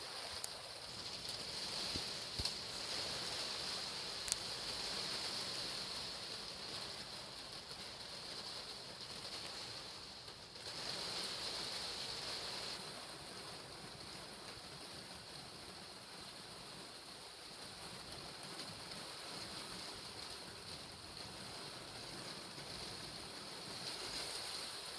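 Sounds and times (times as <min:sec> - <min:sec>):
rain falling through window: 0:00.0 - 0:24.9.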